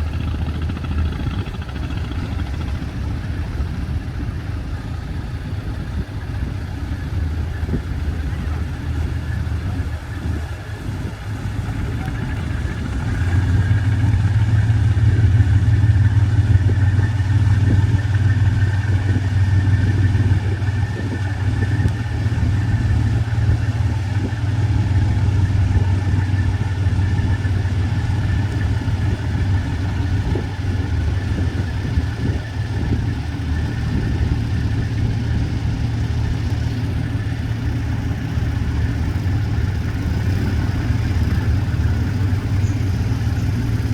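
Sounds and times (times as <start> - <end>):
ferry engines droning: 0.0 - 43.9.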